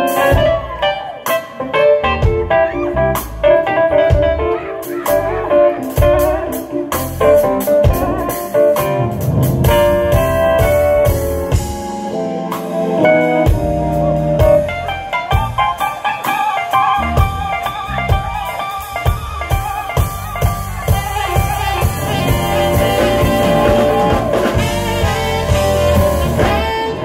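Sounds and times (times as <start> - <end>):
bass: 0.0 - 16.1, 16.7 - 27.0
drum kit: 0.0 - 27.0
electric guitar: 0.0 - 27.0
keyboards: 0.0 - 27.0.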